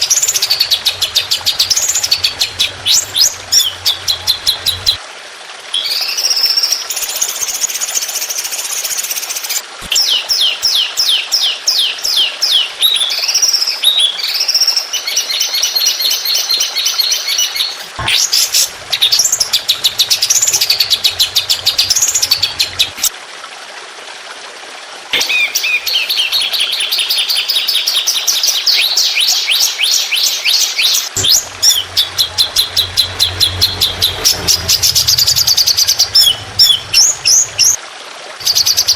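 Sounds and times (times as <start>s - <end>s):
bird chirps and trills: 0.0s - 5.0s, 5.8s - 23.1s, 25.2s - 37.8s, 38.4s - 38.9s.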